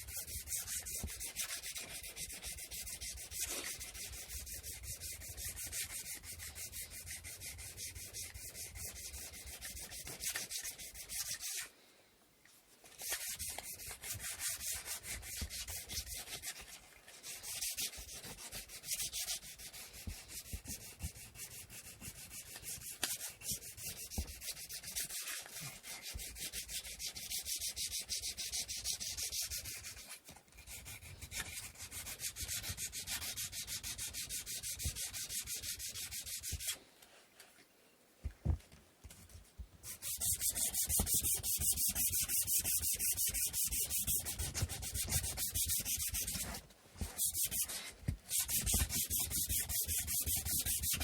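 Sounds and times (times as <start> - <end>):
sandpaper rubbing on wood: 0.0 - 11.7, 13.0 - 36.8, 39.8 - 51.0.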